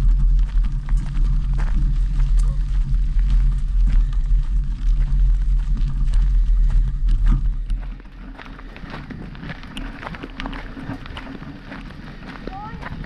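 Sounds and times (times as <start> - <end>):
hoofbeats on trail: 0.0 - 13.0
wind buffeting microphone: 0.0 - 13.0.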